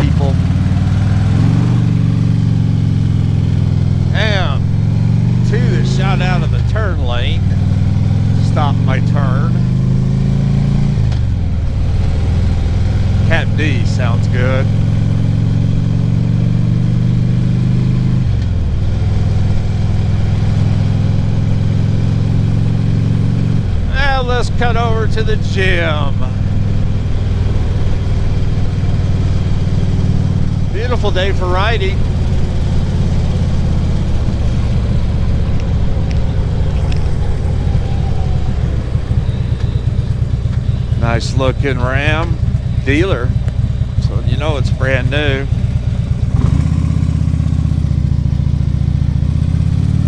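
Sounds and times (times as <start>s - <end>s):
motorcycle engine running: 0.0s - 50.0s
road noise: 0.0s - 50.0s.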